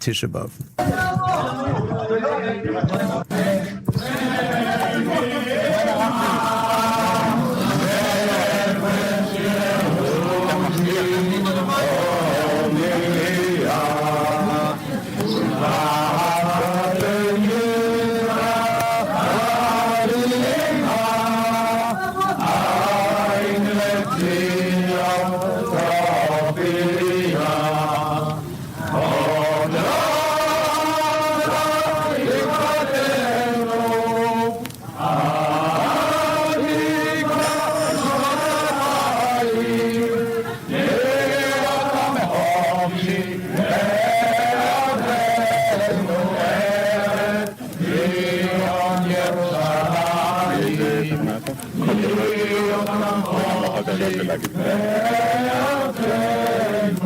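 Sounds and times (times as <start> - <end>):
men chanting a prayer: 0.8 - 57.0.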